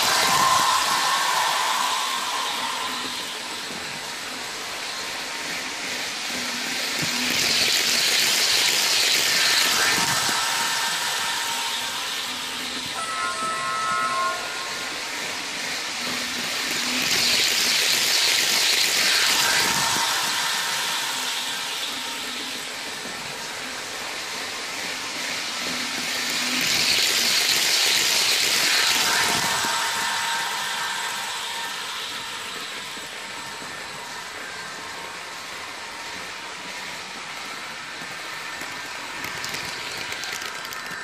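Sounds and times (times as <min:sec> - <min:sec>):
loud train hiss: 0:00.0 - 0:41.0
model train running sound: 0:00.0 - 0:41.0.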